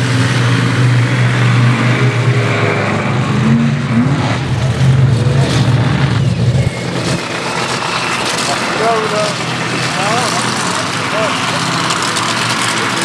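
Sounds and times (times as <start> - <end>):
monster truck engine droning: 0.0 - 13.0.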